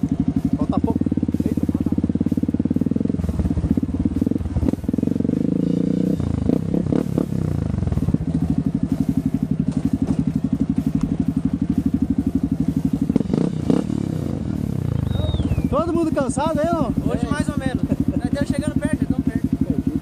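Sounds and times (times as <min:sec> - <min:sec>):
dirt bike engine at low revs: 0:00.0 - 0:20.0.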